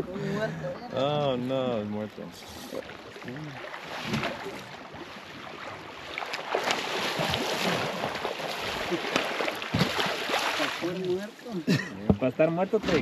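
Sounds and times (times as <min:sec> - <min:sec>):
water splashing: 0:01.0 - 0:13.0.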